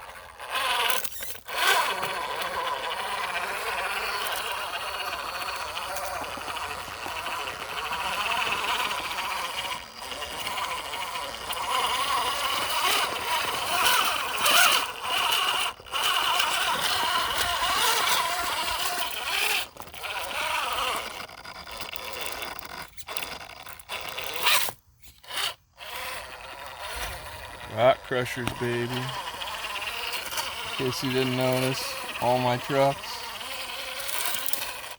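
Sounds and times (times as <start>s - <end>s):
electric motor whining: 0.0s - 34.9s
tires scrabbling on rock: 0.0s - 34.9s.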